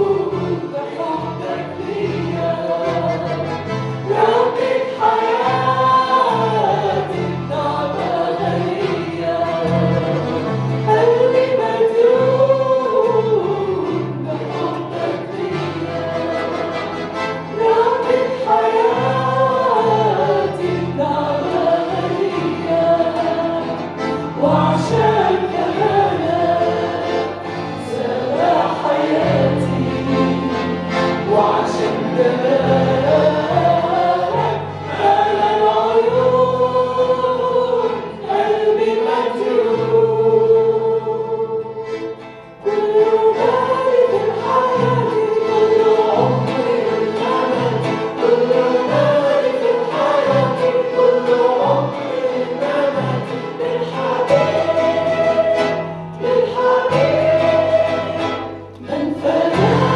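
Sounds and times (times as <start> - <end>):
accompaniment with held bass notes: 0.0 - 59.9
group of voices singing: 0.0 - 59.9.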